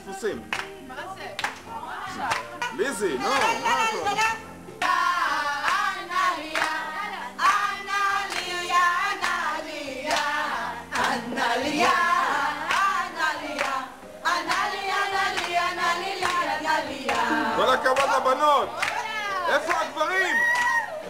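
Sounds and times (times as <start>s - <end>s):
women singing together: 0.0s - 20.0s
hands clapping in rhythm: 0.5s - 0.8s, 1.4s - 3.6s, 4.8s - 20.9s.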